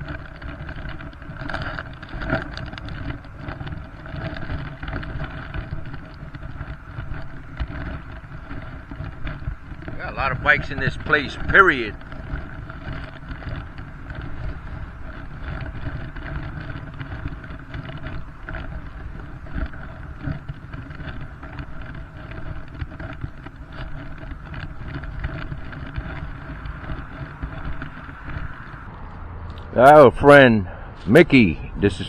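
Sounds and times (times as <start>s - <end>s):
steady rumbling background noise: 0.0s - 32.0s.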